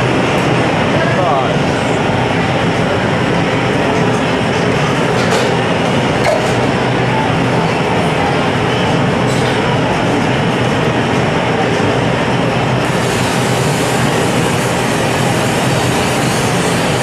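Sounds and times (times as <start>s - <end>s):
gas torch and burner roar: 0.0s - 17.0s.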